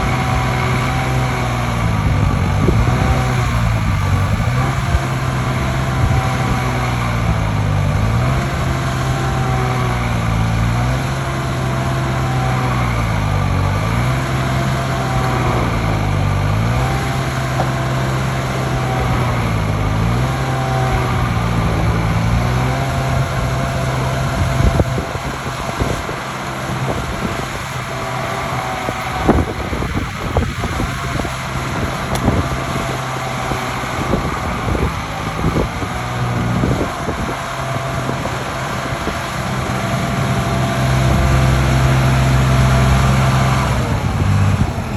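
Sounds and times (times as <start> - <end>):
heavy machinery engine under load: 0.0 - 44.9.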